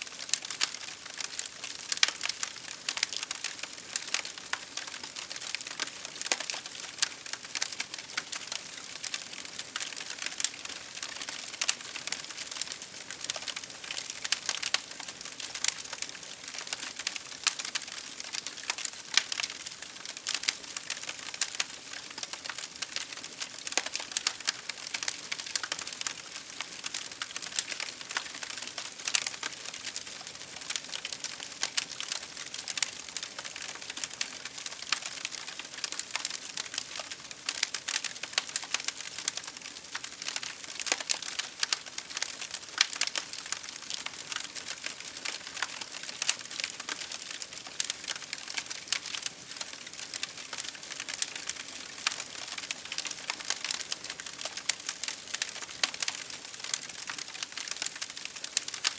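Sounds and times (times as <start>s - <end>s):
fire crackling: 0.2s - 58.9s.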